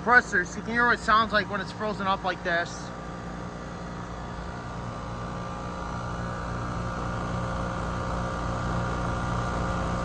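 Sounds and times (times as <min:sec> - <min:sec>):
air conditioner compressor humming: 0:00.0 - 0:10.0.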